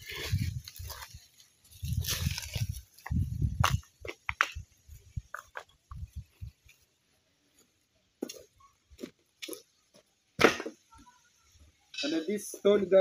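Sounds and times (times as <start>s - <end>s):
footsteps on bare earth: 0.0s - 10.8s.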